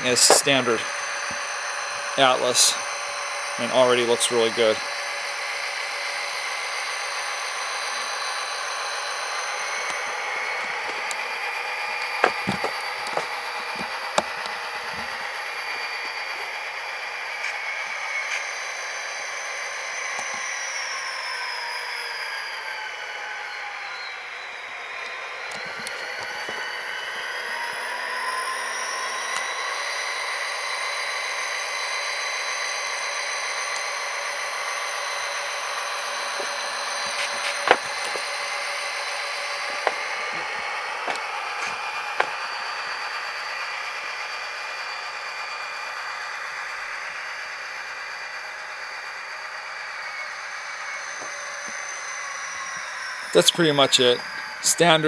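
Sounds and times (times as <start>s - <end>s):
model train diesel engine sound: 0.0s - 55.0s.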